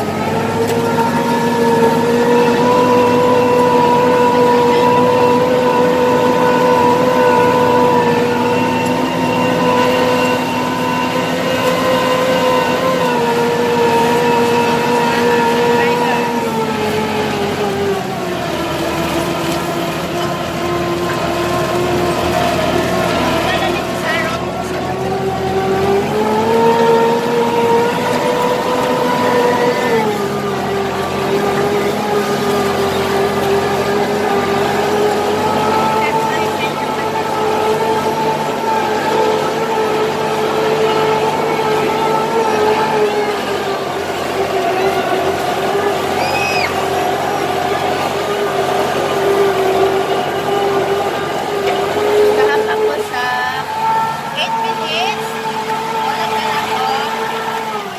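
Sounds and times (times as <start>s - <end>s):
tractor engine running under load: 0.0s - 57.9s.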